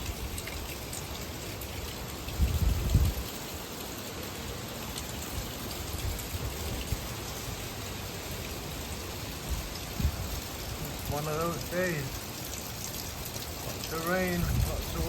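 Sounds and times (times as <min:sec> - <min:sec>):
gusting storm wind: 0:00.0 - 0:03.8, 0:05.2 - 0:15.0
heavy rain: 0:00.0 - 0:15.0.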